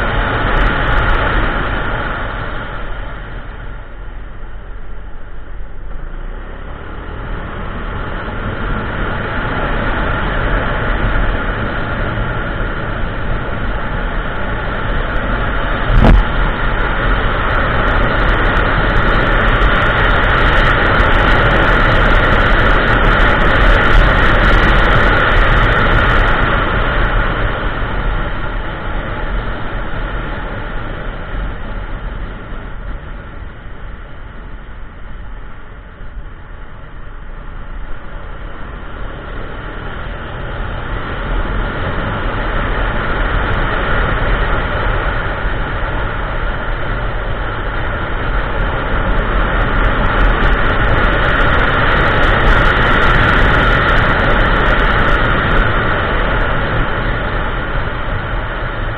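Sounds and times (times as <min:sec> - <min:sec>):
road noise: 0:00.0 - 0:58.9
wind noise: 0:00.0 - 0:58.9.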